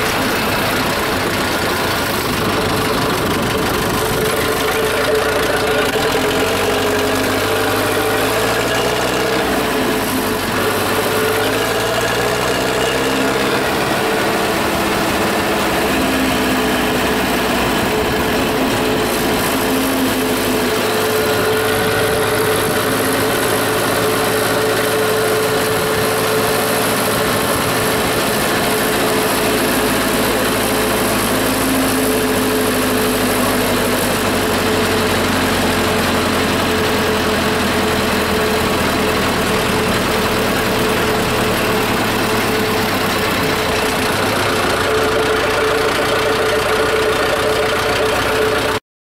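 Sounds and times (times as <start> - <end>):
tractor diesel engine running: 0.0 - 48.8.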